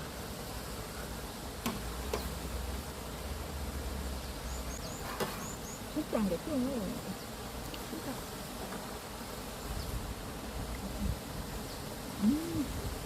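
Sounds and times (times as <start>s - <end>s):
insect buzzing: 0.0s - 13.0s.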